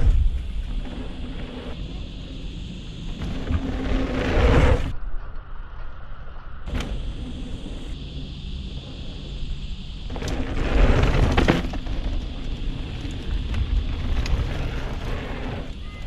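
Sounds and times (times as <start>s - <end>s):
tyres rolling over dirt: 0.0s - 5.0s, 6.7s - 16.0s
wind buffeting microphone: 0.0s - 16.0s.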